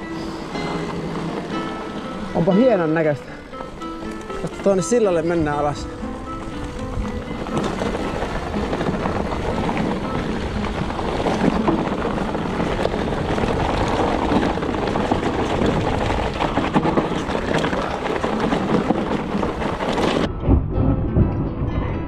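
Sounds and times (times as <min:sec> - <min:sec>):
bike tyres crunching over stones: 0:00.0 - 0:20.3
low thumps: 0:00.0 - 0:22.0
wind on microphone: 0:03.4 - 0:22.0.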